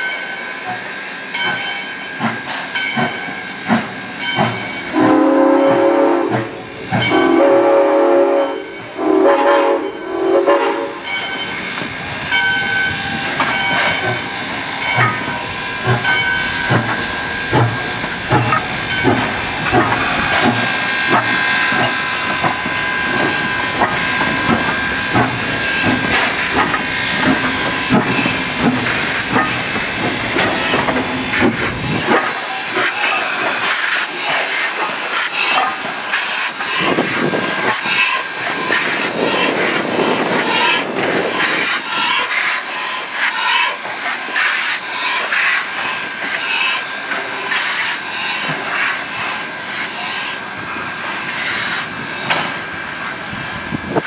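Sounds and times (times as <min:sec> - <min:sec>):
steam hissing: 0:00.2 - 0:54.0.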